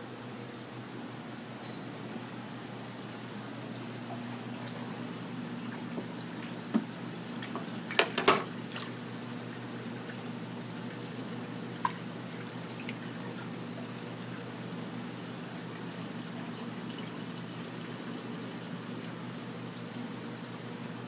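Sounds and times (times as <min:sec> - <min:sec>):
steady low hum: 0:00.0 - 0:21.0
water splashing and trickling: 0:02.6 - 0:20.8.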